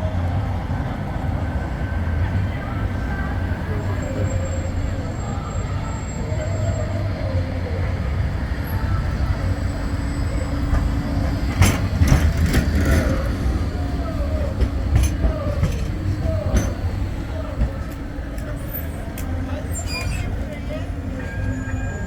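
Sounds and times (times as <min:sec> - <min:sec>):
tram running with low rumble: 0:00.0 - 0:22.0.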